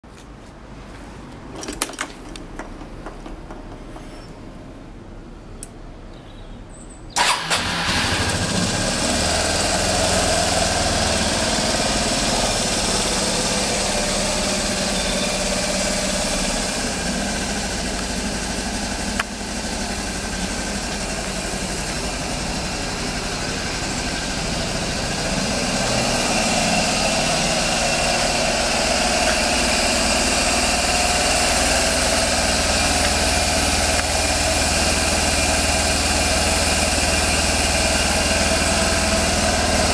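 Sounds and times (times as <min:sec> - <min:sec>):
scooter engine starting and idling: 0:07.2 - 0:39.9.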